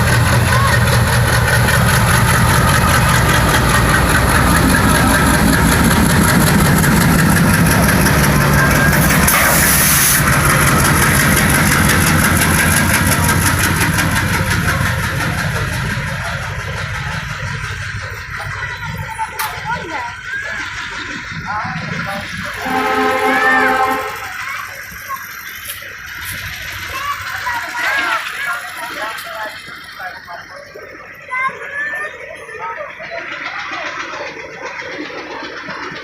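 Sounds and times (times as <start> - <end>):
diesel tractor engines running: 0.0 - 36.0.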